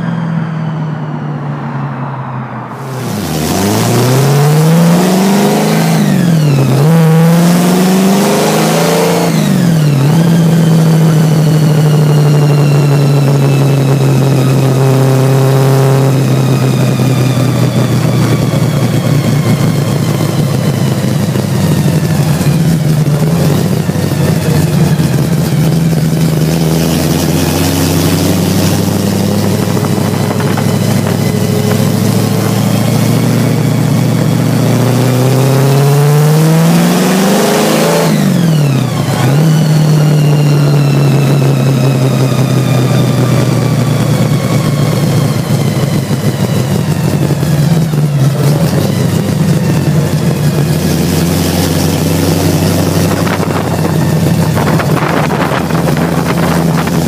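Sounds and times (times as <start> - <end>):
car engine revving: 0.0 - 57.0
supercharger whine: 0.0 - 57.0.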